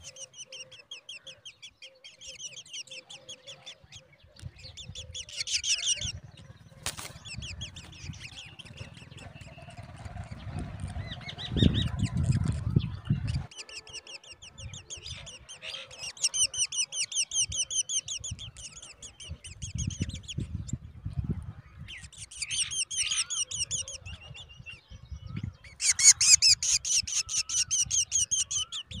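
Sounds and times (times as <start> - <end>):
nestlings begging chirps: 0.0 - 29.0.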